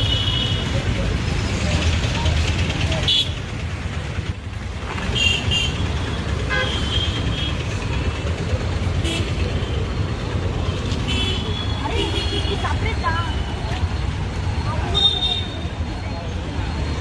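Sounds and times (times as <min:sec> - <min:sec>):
street traffic rumbling: 0:00.0 - 0:17.0.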